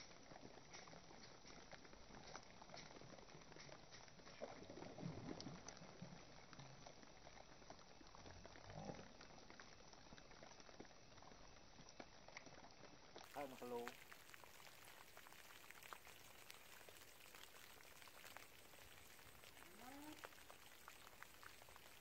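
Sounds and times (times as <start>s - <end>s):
shallow water bubbling and sloshing: 0.0s - 22.0s.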